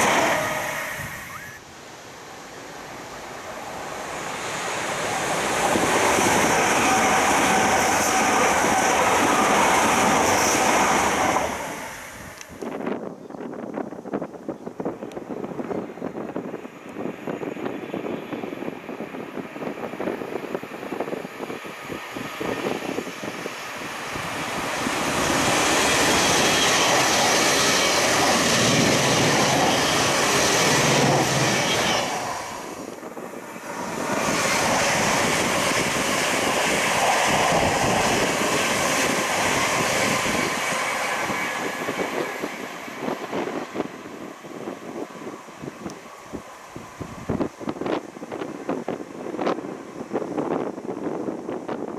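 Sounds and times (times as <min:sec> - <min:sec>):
train passing: 0:00.0 - 0:13.0, 0:14.8 - 0:51.9.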